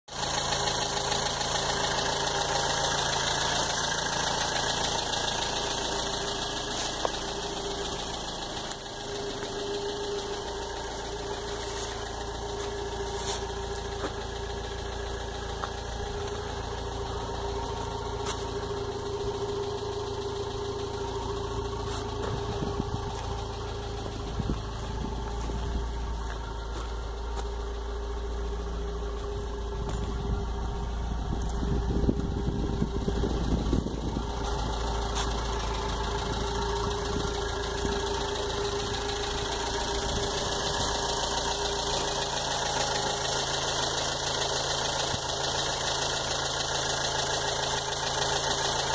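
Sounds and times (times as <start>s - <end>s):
car engine idling: 0.0s - 48.9s
low exhaust rumble: 0.1s - 48.9s.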